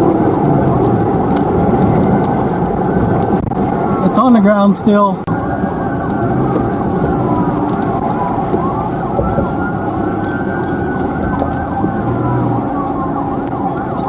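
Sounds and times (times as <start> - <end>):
emergency vehicle sirens wailing: 0.0 - 14.0
steady low rumble: 0.0 - 14.0.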